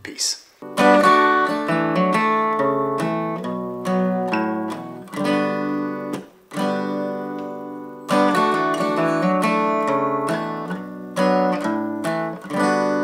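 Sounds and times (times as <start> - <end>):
acoustic guitar strumming chords: 0.6 - 13.0.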